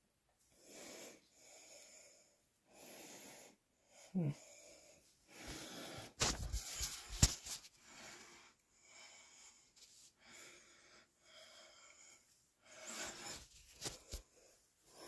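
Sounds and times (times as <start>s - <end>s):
person breathing heavily: 0.6s - 15.0s.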